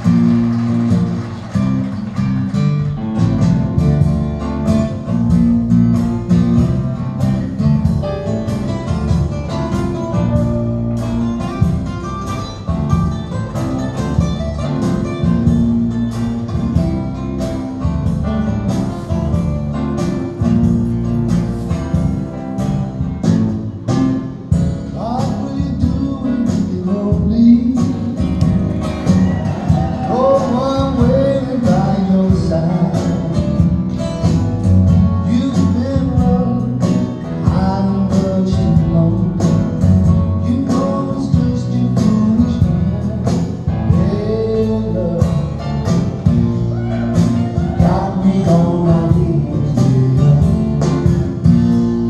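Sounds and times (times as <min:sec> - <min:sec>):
plucked guitar: 0:00.0 - 0:52.0.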